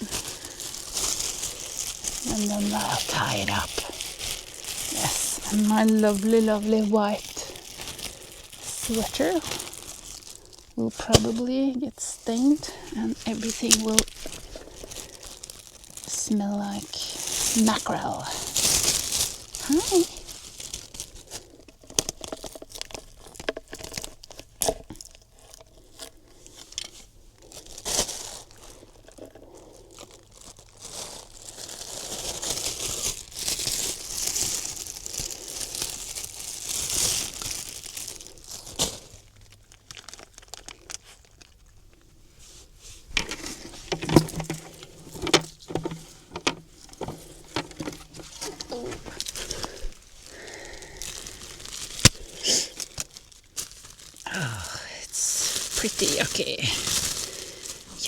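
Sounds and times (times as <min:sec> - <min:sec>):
plastic bags crinkling: 0:00.0 - 0:58.0.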